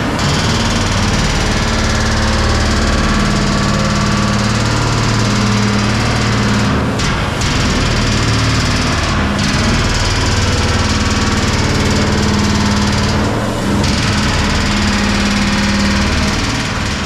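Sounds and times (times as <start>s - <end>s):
heavy machinery running: 0.0s - 17.0s.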